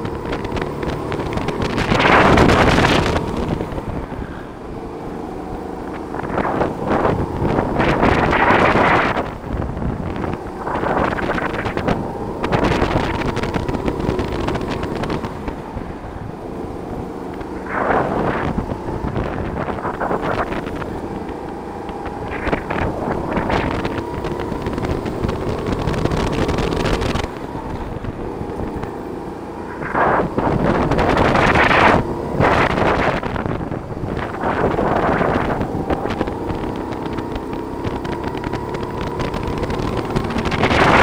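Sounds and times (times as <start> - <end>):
go-kart motor: 0.0 - 41.0
wind buffeting the microphone: 0.0 - 41.0.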